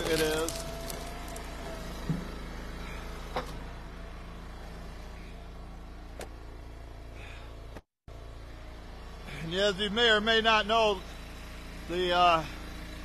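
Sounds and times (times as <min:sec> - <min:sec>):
small gas engine running: 0:00.0 - 0:13.0.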